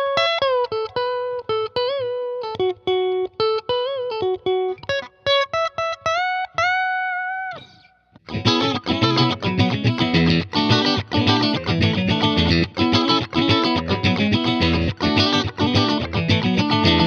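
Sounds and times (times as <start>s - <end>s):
electric guitar chords: 0.0s - 17.0s
electric guitar lead melody: 0.0s - 17.0s.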